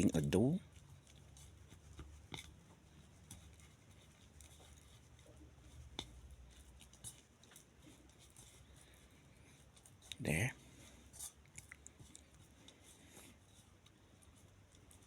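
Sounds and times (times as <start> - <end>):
kneading dough-like material by hand: 0.0 - 15.0.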